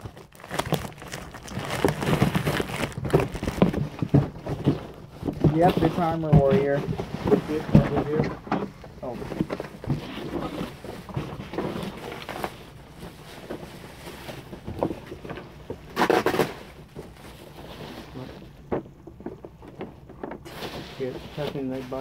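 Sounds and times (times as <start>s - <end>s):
plastic bags rustling: 0.0s - 18.7s, 19.5s - 22.0s.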